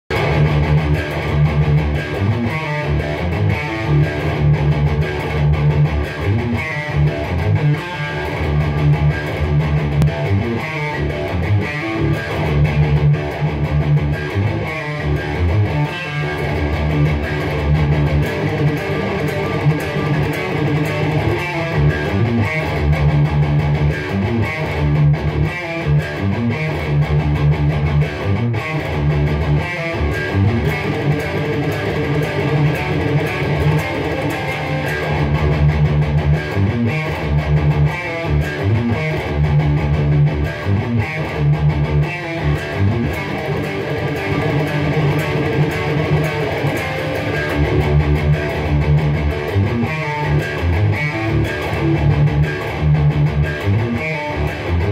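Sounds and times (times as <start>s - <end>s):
electric guitar metal riffs: 0.1s - 54.9s.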